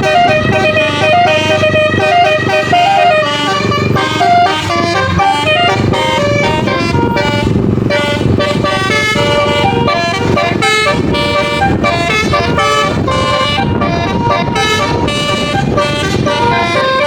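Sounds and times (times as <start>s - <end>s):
low engine and road rumble: 0.0s - 17.0s
multi-tone bus horn melody: 0.0s - 17.0s.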